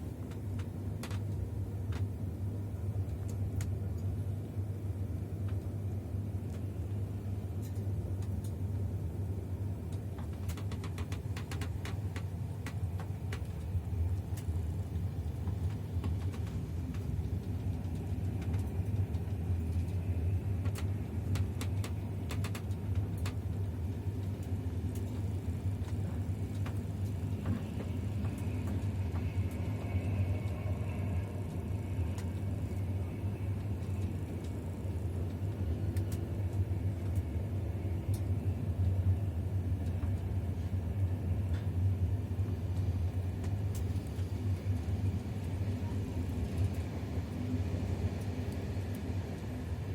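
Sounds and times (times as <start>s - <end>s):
sharp clicks of train: 0.0s - 8.9s, 9.8s - 49.9s
passenger train rumbling: 0.0s - 49.9s.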